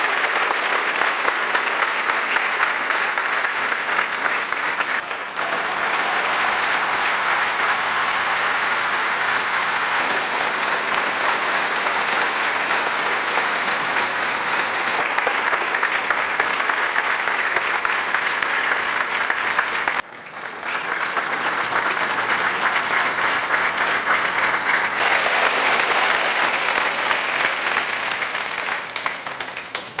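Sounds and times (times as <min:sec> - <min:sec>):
crowd clapping: 0:00.0 - 0:30.0.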